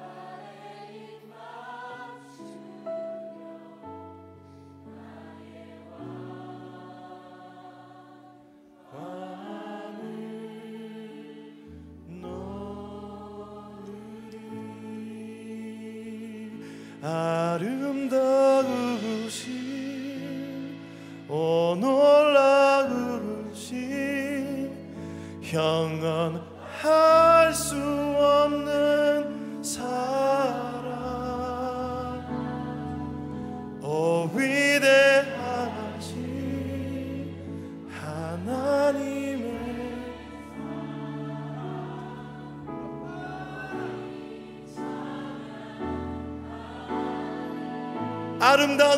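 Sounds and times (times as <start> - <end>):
slow soft worship band music: 0.0 - 48.9.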